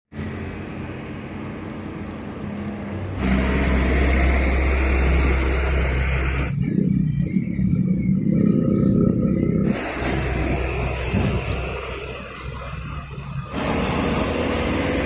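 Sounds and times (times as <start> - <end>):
deep engine rumble: 0.1 - 15.0
truck engine hum: 0.1 - 15.0.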